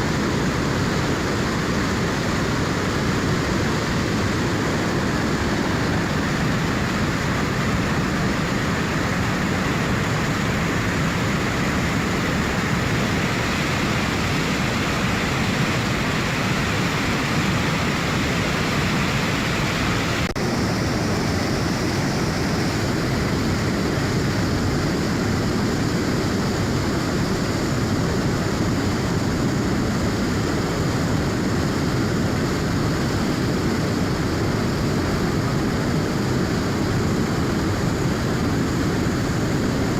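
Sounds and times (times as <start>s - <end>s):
river rushing and churning: 0.0s - 39.9s.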